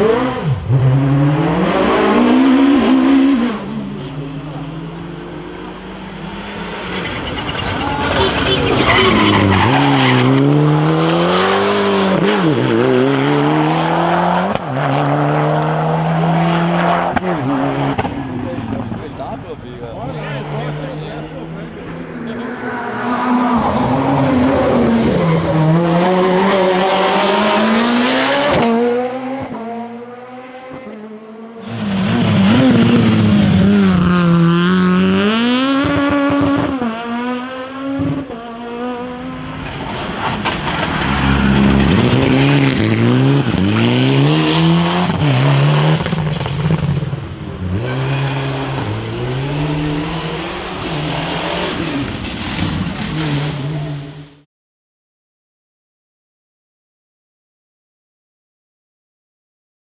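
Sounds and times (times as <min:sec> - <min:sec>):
rally car engines revving: 0:00.0 - 0:54.5.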